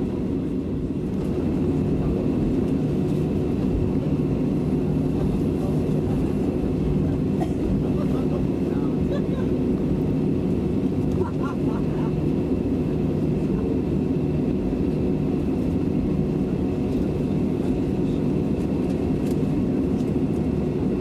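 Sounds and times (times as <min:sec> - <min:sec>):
high engine whine: 0:00.0 - 0:21.0
jet engines humming: 0:00.0 - 0:21.0.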